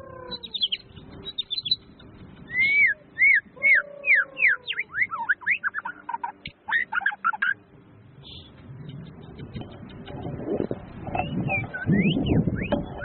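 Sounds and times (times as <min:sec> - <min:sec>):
songbird whistling song: 0:00.1 - 0:07.6, 0:08.2 - 0:13.0.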